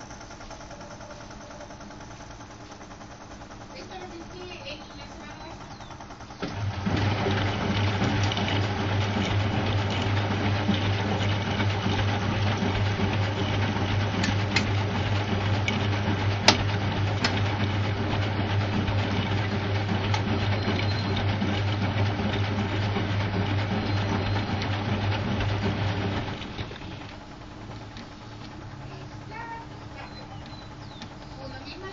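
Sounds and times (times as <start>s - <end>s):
washing machine humming: 0.0s - 31.9s.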